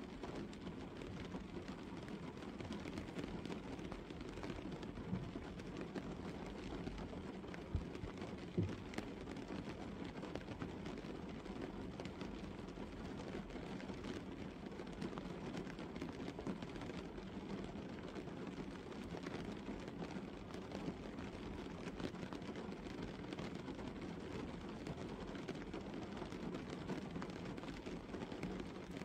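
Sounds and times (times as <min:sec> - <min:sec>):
rain pattering on a car: 0:00.0 - 0:29.0.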